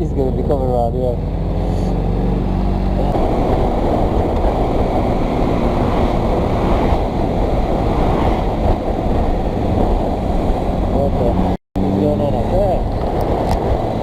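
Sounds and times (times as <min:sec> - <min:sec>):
wind noise on microphone: 0:02.7 - 0:14.0.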